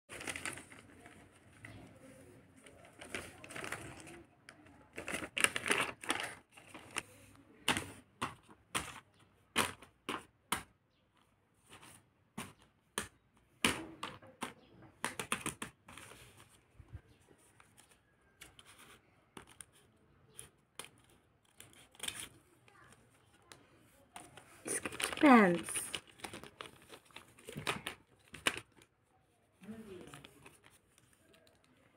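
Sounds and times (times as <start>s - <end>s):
paper crinkling and rustling: 0.1s - 9.9s, 15.0s - 31.9s.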